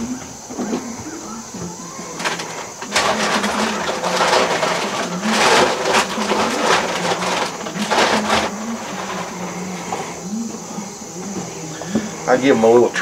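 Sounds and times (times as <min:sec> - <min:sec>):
grain feed rustling and rattling: 0:00.0 - 0:12.4.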